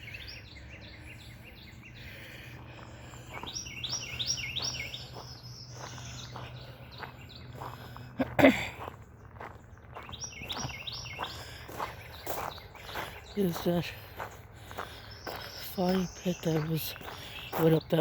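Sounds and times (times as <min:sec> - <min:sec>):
footsteps: 0:02.6 - 0:18.0.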